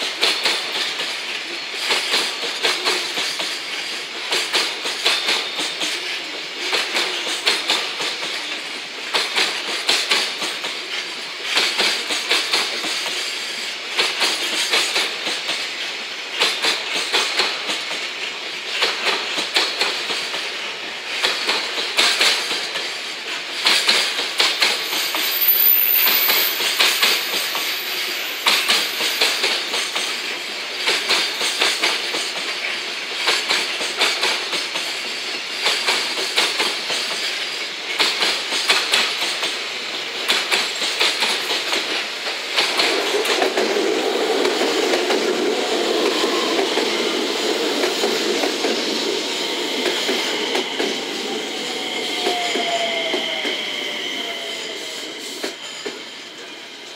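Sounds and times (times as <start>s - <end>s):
train wheels clicking over rail joints: 0.0s - 53.6s.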